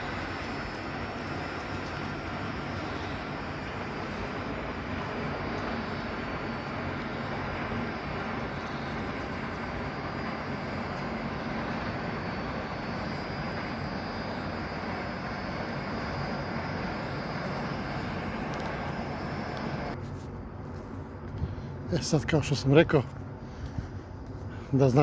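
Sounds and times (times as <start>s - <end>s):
faint high whine: 0.0s - 23.4s.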